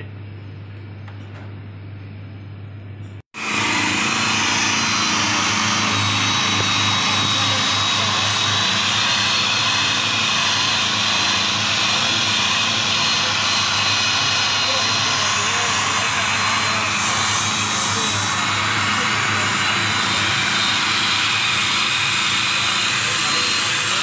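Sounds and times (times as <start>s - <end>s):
machine whining: 3.1s - 24.0s.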